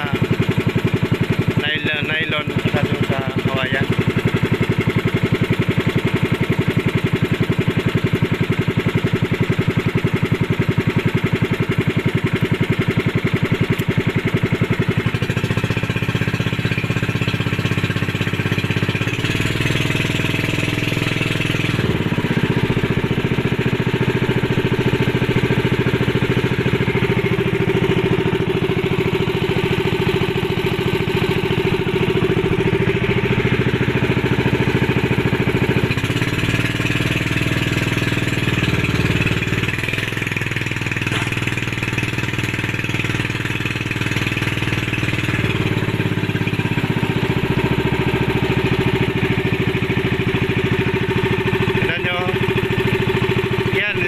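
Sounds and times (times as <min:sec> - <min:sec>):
small boat engine putter: 0:00.0 - 0:54.0.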